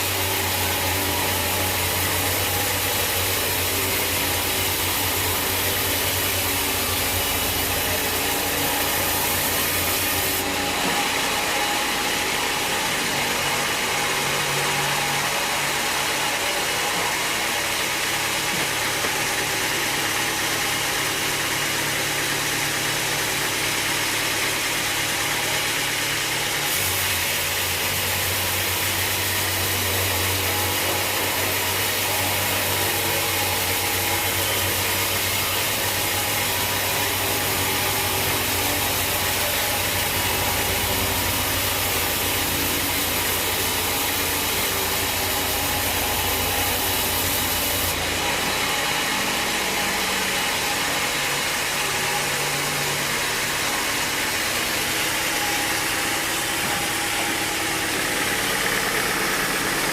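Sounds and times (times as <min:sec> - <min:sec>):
dense hiss of machinery noise: 0:00.0 - 0:22.4, 0:26.5 - 0:59.9
sawmill engine hum: 0:00.0 - 0:59.9.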